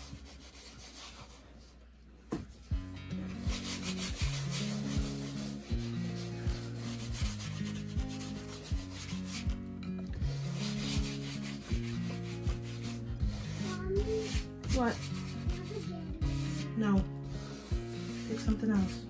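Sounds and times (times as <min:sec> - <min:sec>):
hands rubbing paint on canvas: 0:00.0 - 0:01.8, 0:02.4 - 0:19.0
slow beat music with low bass: 0:02.6 - 0:18.6.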